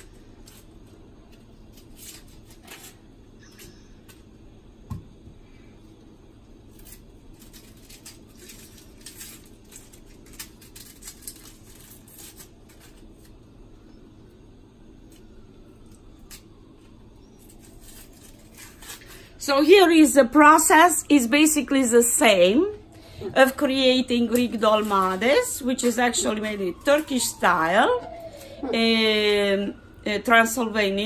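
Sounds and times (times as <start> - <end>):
onion skins crackling: 0.0 - 31.0.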